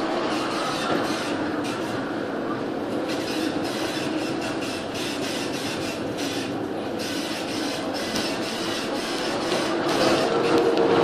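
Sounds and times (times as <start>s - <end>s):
ship creaking and rattling: 0.0s - 11.0s
wind: 0.0s - 11.0s.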